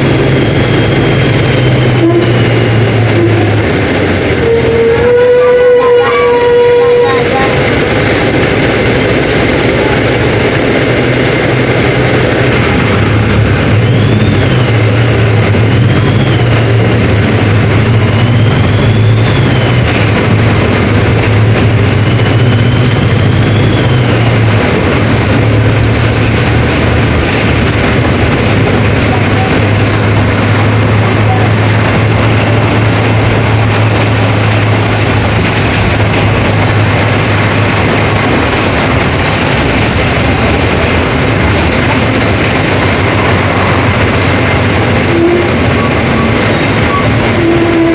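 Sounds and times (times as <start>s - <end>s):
bus diesel engine droning: 0.0s - 47.9s.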